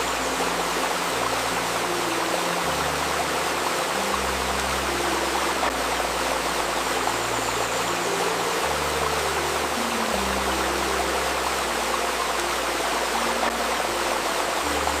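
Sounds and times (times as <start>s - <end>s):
river babbling: 0.0s - 15.0s
soft sustained low tones: 0.0s - 15.0s.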